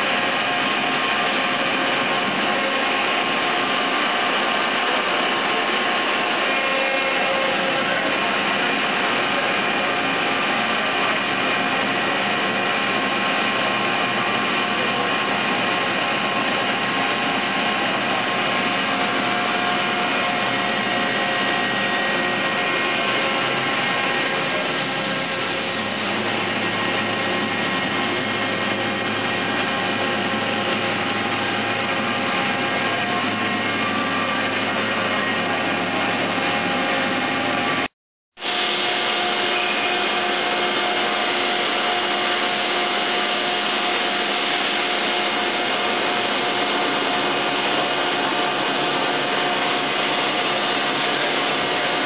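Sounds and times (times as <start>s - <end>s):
boring mill mechanical whir: 0.0s - 52.0s.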